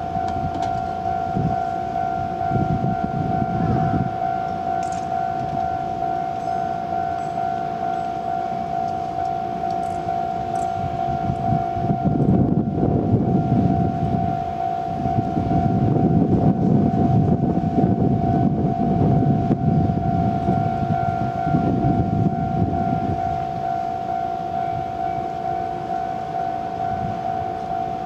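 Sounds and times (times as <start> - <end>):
freight train passing: 0.0 - 28.0
level crossing warning bell: 0.0 - 28.0.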